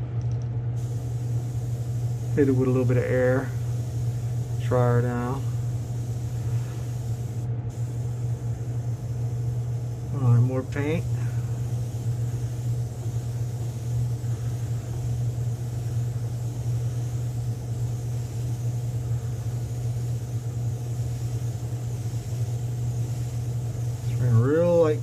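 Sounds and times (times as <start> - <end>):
exhaust fan humming: 0.0 - 25.0.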